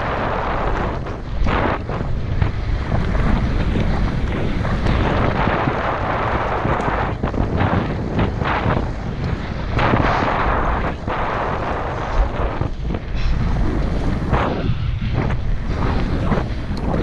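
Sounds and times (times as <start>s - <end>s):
bike rattling over bumps: 0.0s - 17.0s
bike tyre rumble: 0.0s - 17.0s
wind buffeting microphone: 0.0s - 17.0s.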